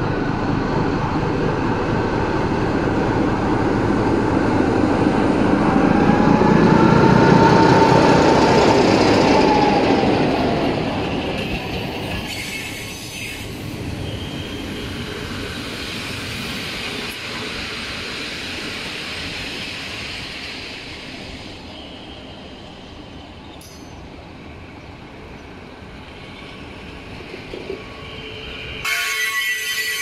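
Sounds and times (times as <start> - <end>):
locomotive passing on rails: 0.0 - 30.0.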